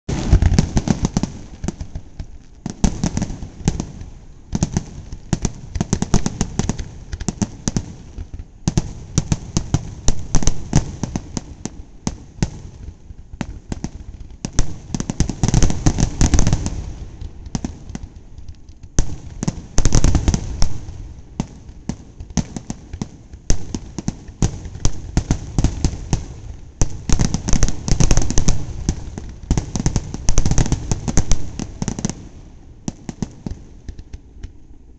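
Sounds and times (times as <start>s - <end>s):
firework shells bursting with bangs: 0.1s - 34.9s
rapid firework crackling: 0.1s - 34.9s.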